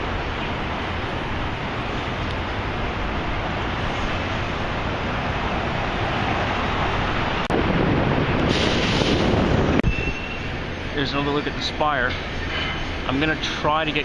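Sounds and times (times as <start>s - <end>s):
traffic: 0.0s - 14.0s
wind: 0.0s - 14.0s.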